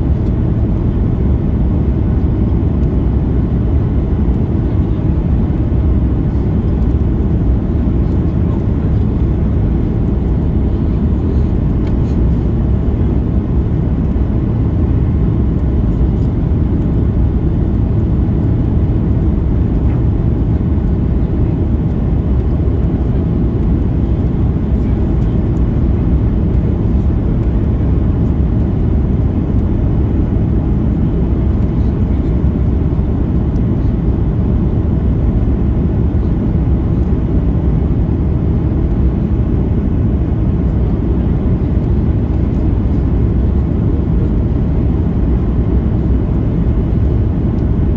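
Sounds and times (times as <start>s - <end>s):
aircraft engines low rumble: 0.0s - 47.9s.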